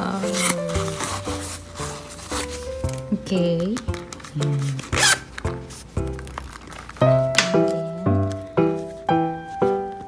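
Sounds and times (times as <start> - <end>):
background music with held notes: 0.0 - 10.0
handling noise: 0.3 - 10.0.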